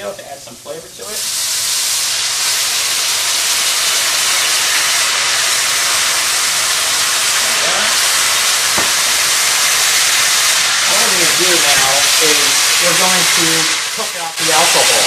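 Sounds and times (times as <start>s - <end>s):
wine sizzling in a hot pan: 0.0s - 15.0s.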